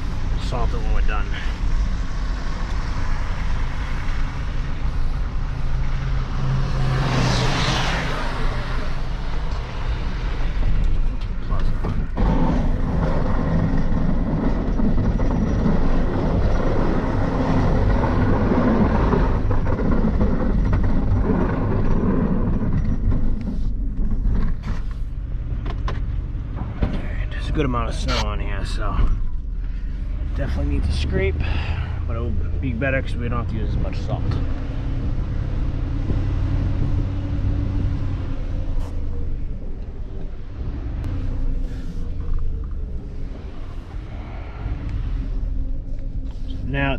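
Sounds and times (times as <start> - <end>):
plow scraping snow: 0.0 - 25.5, 27.1 - 46.9
road noise: 0.0 - 46.9
truck engine running: 0.0 - 46.9.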